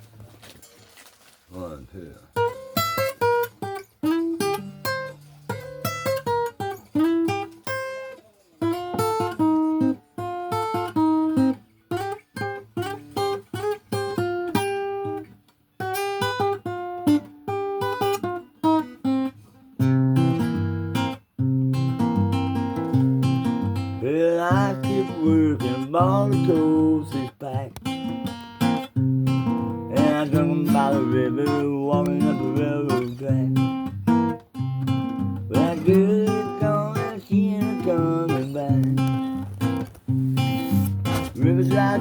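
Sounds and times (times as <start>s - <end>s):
acoustic guitar playing: 2.3s - 42.0s.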